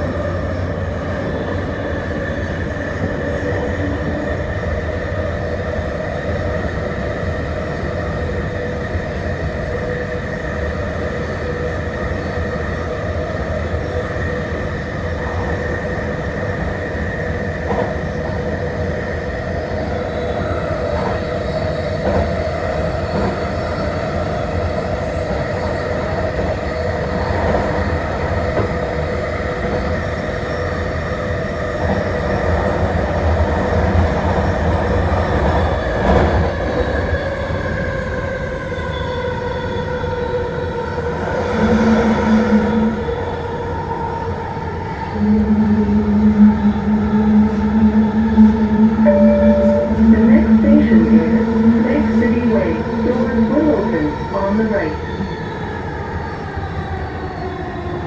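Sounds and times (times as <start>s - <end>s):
train rumble: 0.0s - 58.0s
train whine: 0.0s - 58.0s.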